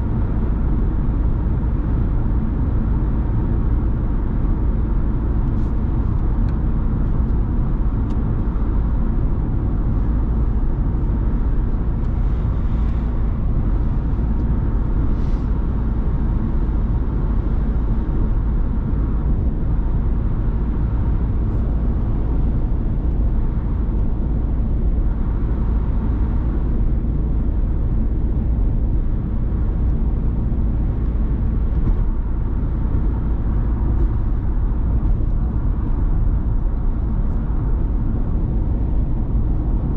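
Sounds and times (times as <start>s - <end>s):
van driving on wet road: 0.0s - 39.9s.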